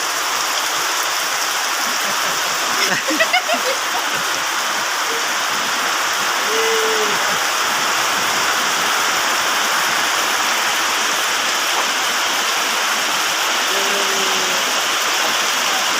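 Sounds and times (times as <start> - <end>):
heavy downpour: 0.0 - 15.9
water running and pouring: 0.8 - 15.5.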